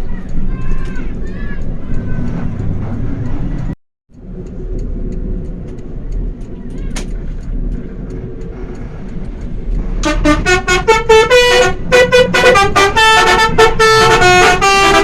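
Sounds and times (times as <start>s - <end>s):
road traffic noise: 0.0s - 15.0s
vehicle engine running: 0.0s - 15.0s.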